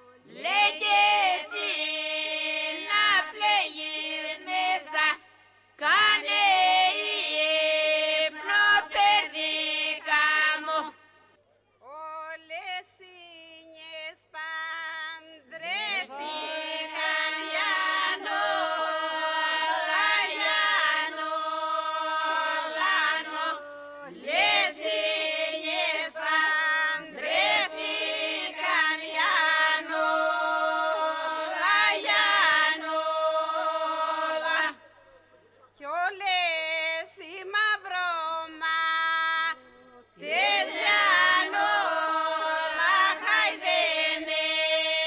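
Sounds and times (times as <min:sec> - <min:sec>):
women singing unaccompanied: 0:00.0 - 0:11.0, 0:11.9 - 0:34.8, 0:35.8 - 0:45.0.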